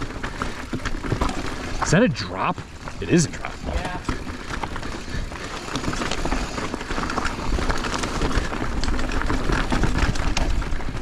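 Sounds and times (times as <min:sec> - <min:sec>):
bike clattering and knocking: 0:00.0 - 0:01.8, 0:02.6 - 0:11.0.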